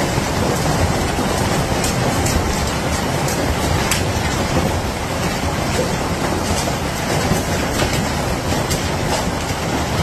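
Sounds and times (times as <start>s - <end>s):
hail and heavy rain: 0.0s - 10.0s
hailstones clicking on hard surfaces: 0.0s - 10.0s.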